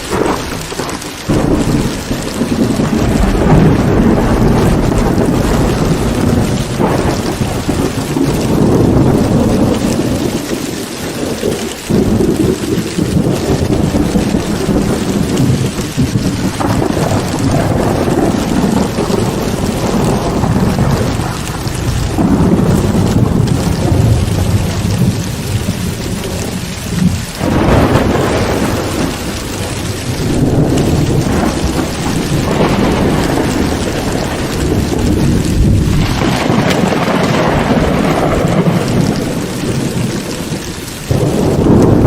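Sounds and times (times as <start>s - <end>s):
heavy rain falling: 0.0s - 42.0s
thunder rumbling: 0.0s - 42.0s.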